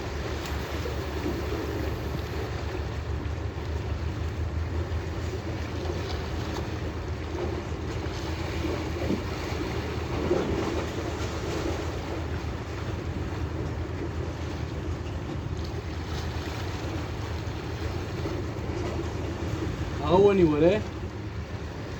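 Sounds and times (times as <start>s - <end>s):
boat engine drone: 0.0s - 21.9s
water washing around hull: 0.0s - 21.9s.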